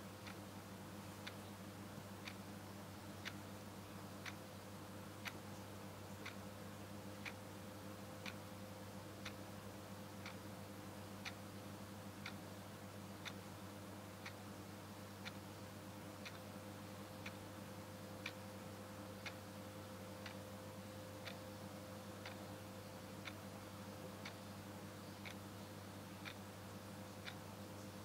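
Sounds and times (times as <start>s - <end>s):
faint clock ticking: 0.0s - 0.5s, 1.1s - 28.0s
low steady hum: 0.0s - 28.0s.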